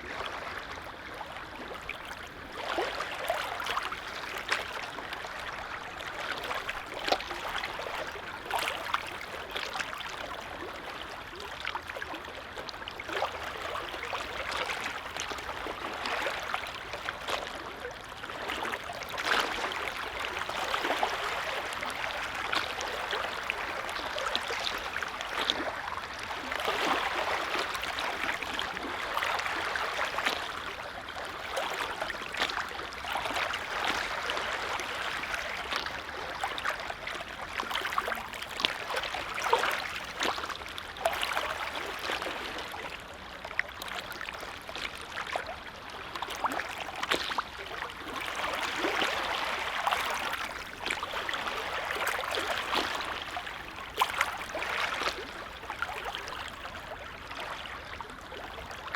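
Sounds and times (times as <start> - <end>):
small waves lapping at shore: 0.0 - 58.9.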